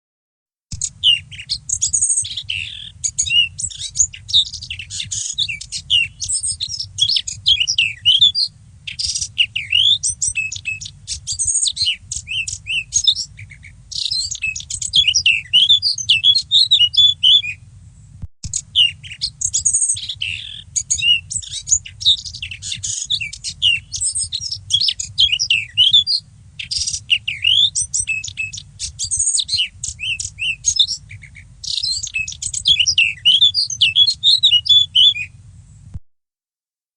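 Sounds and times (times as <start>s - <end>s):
warbler singing: 0.7s - 36.0s
faint low rumble: 0.8s - 32.7s, 35.2s - 36.0s.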